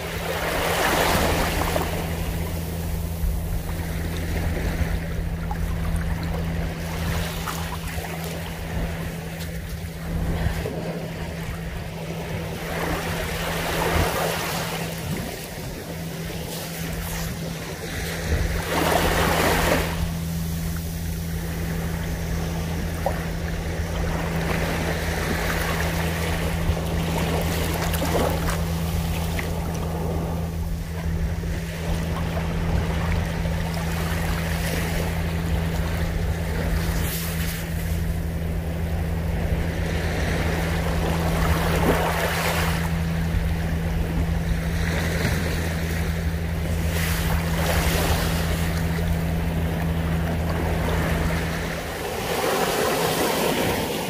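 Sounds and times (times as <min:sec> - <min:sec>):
small waves lapping on beach: 0:00.0 - 0:54.0
steady low hum: 0:00.0 - 0:54.0.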